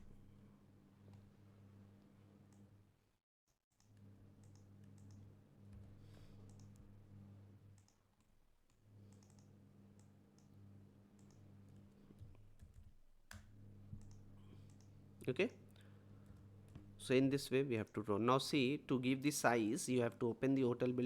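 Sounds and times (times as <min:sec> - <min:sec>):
low steady hum: 0:00.0 - 0:03.1, 0:03.9 - 0:08.0, 0:08.8 - 0:12.6, 0:13.3 - 0:21.0.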